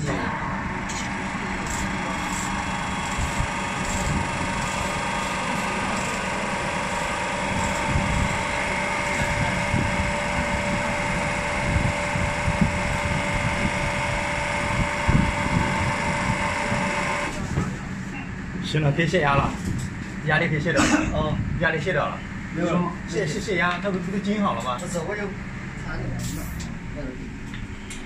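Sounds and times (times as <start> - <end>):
hydraulic pump hum and whine: 0.0 - 20.6, 21.2 - 28.0.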